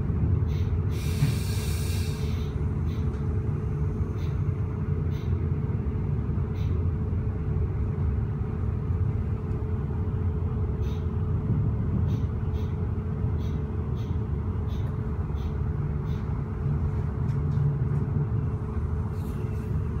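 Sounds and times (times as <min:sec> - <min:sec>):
train coach low rumble: 0:00.0 - 0:20.0.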